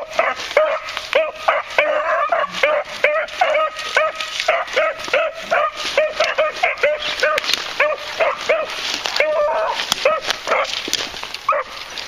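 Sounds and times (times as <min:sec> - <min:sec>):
beagles barking in high yelps: 0:00.0 - 0:12.0.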